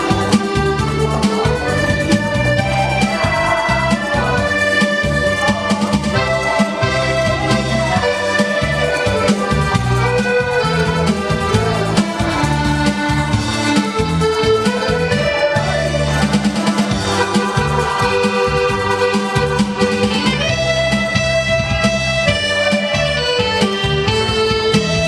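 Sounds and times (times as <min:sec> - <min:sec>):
accordion playing lively melody: 0:00.0 - 0:25.0.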